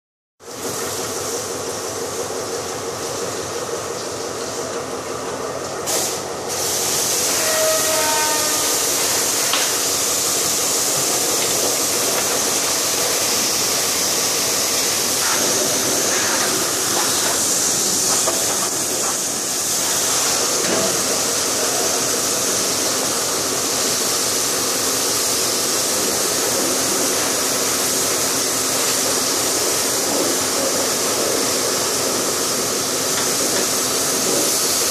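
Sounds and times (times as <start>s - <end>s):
steady mechanical hum: 0.4s - 34.9s
water spraying: 5.8s - 34.9s.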